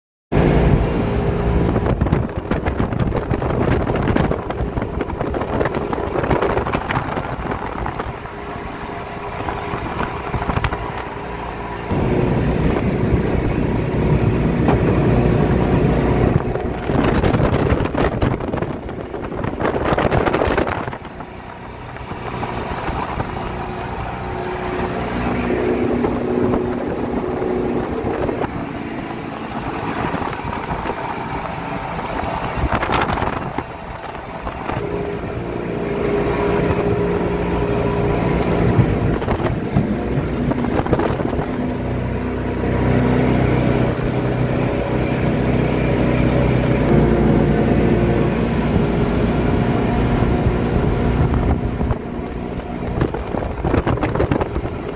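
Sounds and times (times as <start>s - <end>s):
motorboat engine running: 0.3s - 54.9s
water rushing along hull: 0.4s - 54.9s
wind on microphone: 0.4s - 54.9s.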